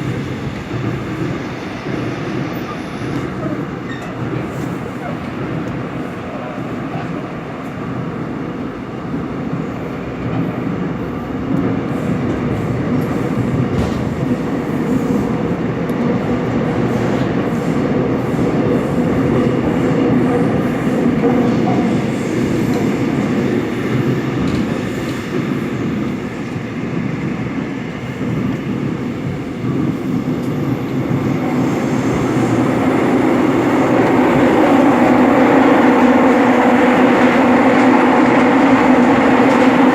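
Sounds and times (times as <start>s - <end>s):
subway wheels rumbling on rail: 0.0s - 39.9s.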